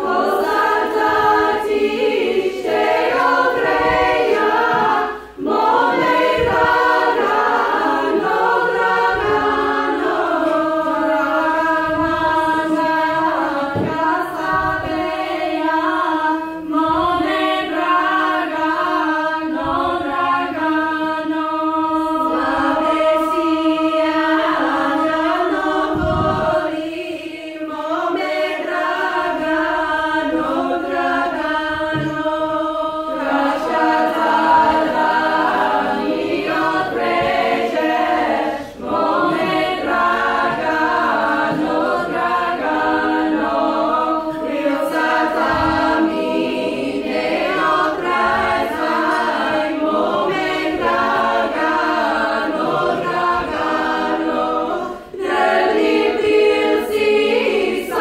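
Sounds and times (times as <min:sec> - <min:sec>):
women's choir singing in harmony: 0:00.0 - 0:58.0.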